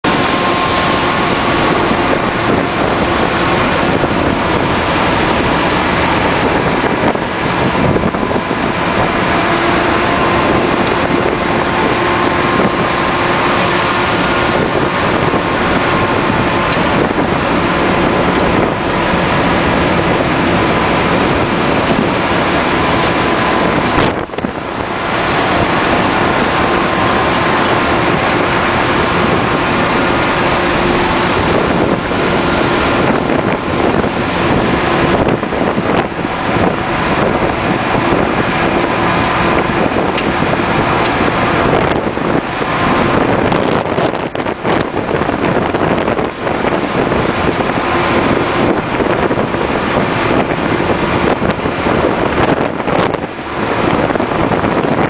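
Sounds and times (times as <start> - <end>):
gale wind buffeting microphone: 0.0 - 55.0
heavy seas breaking on hull: 0.0 - 55.0.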